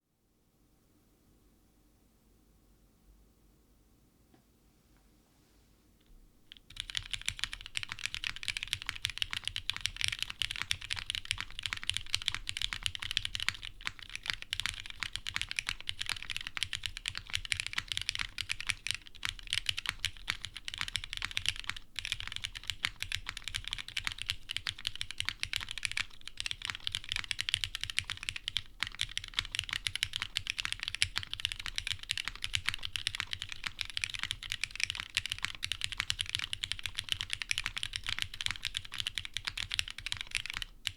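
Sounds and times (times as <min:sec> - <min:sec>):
fast mechanical keyboard typing: 0:06.5 - 0:40.9.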